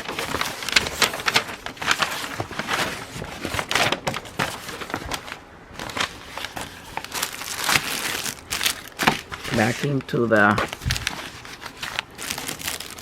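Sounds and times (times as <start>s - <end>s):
plastic and paper crinkling: 0.0s - 13.0s.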